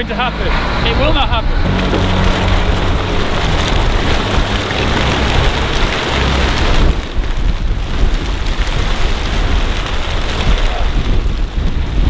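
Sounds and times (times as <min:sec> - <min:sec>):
wind buffeting microphone: 0:00.0 - 0:12.0
plastic sheeting flapping: 0:01.6 - 0:12.0.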